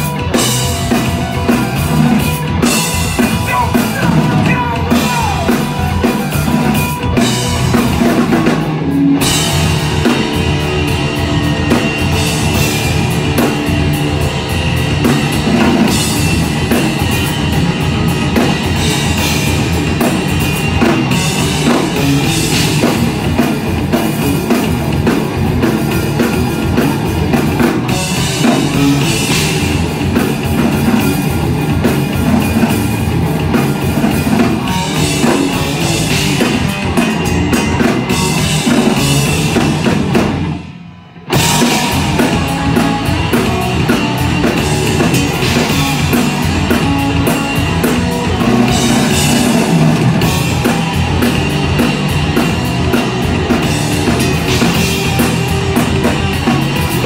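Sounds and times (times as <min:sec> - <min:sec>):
punk rock band playing: 0:00.0 - 0:57.0.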